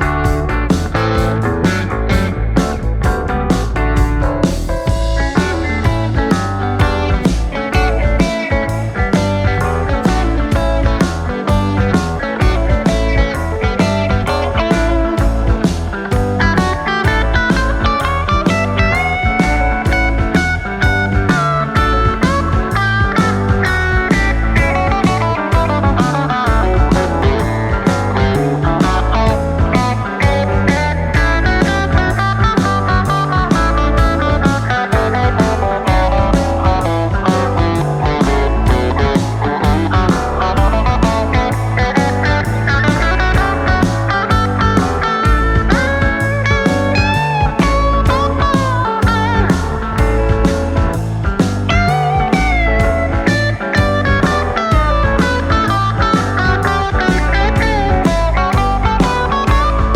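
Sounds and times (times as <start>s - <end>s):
electric guitar music over a beat: 0.0s - 59.9s.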